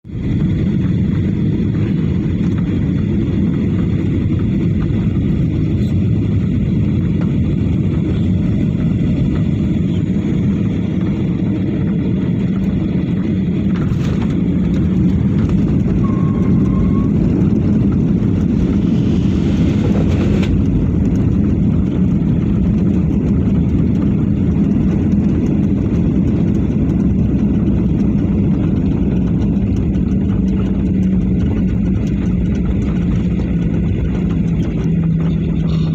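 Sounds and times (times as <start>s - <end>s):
airliner engine roar in cabin: 0.0s - 35.9s
low hum: 0.0s - 35.9s.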